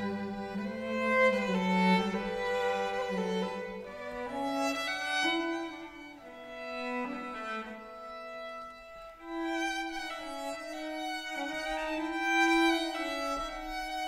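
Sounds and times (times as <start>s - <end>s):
slow fiddle tune: 0.0s - 14.0s.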